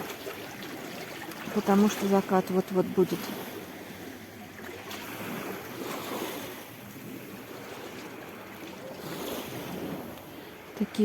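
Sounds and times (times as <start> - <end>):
small waves splashing: 0.0 - 11.0.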